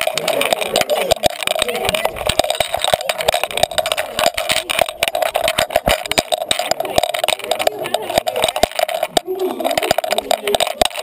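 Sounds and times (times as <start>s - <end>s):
camera housing rattling and knocking: 0.0s - 11.0s.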